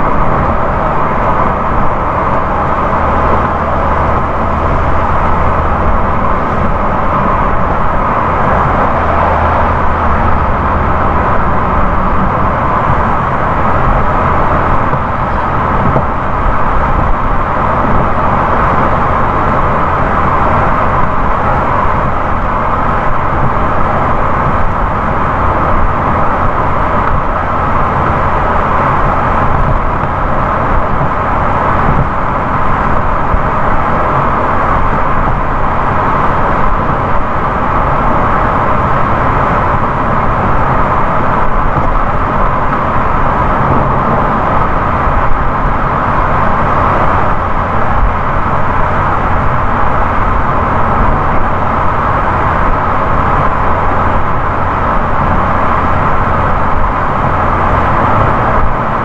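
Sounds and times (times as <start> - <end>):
car road noise at highway speed: 0.0 - 59.0.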